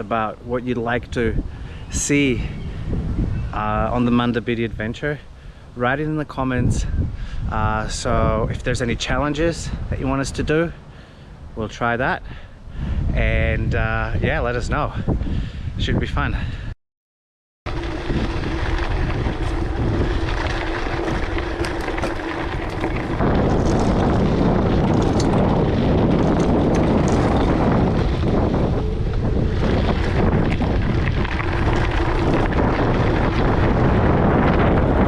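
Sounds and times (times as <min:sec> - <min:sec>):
wind buffeting microphone: 0:00.0 - 0:16.7, 0:17.7 - 0:35.0.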